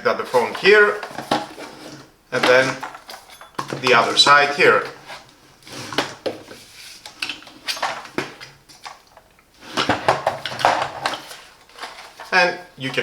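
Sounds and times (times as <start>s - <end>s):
vacuum parts clicking and clattering: 0.0s - 13.0s.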